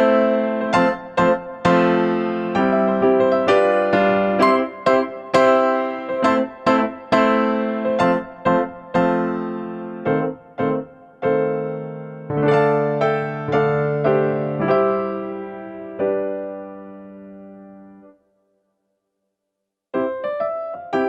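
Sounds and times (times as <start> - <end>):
piano chords: 0.0 - 18.3, 19.9 - 21.0.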